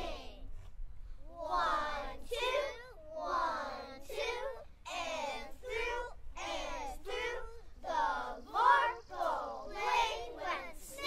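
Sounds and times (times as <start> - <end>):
children chanting in unison: 0.0 - 0.4, 1.2 - 11.0.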